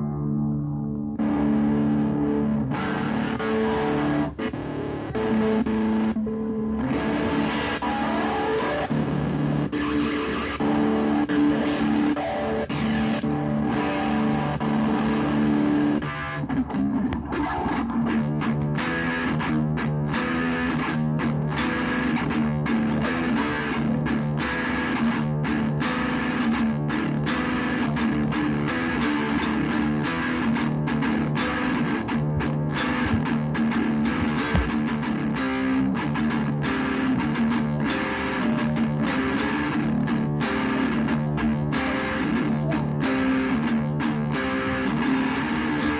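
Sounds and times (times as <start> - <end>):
electric guitar chords: 0.0 - 45.9.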